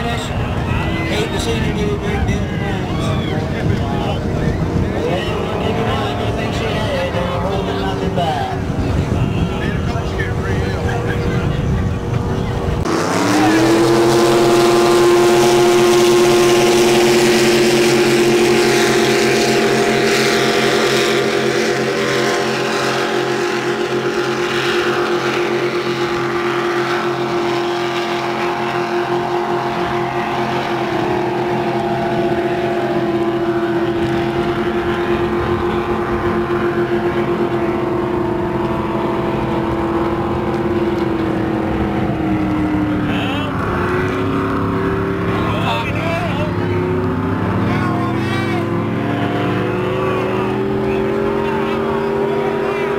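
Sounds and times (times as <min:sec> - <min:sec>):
motorboat engines droning: 0:00.0 - 0:52.9.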